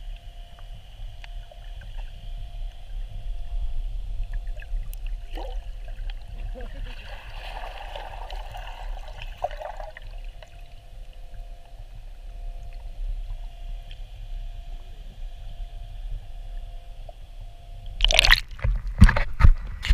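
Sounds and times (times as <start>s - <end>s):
faint steady hum: 0.0s - 19.9s
muffled underwater rumble: 0.0s - 19.9s.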